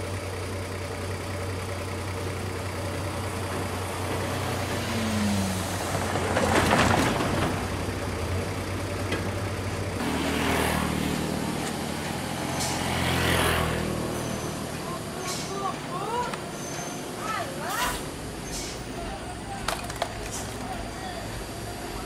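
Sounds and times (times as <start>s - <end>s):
engine hum: 0.0s - 22.0s
truck diesel engine idling: 0.0s - 22.0s.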